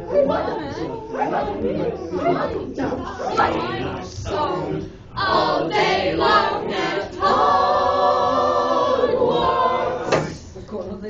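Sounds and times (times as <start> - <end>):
group singing unaccompanied: 0.0 - 10.7.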